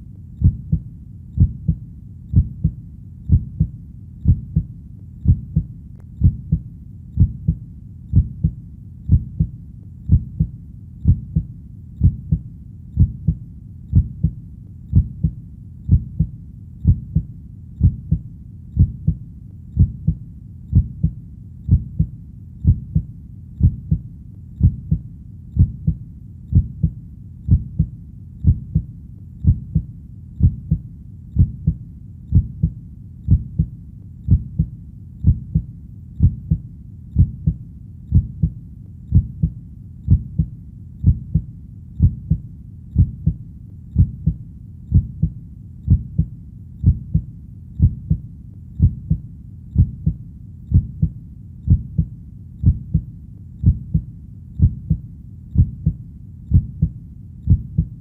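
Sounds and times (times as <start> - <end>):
slow heartbeat thumps: 0.0 - 19.2, 19.8 - 33.7, 34.3 - 58.0.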